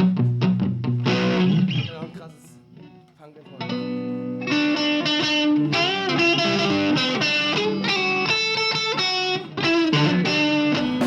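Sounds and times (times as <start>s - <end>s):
distorted electric guitar riff: 0.0s - 2.0s, 3.6s - 11.0s.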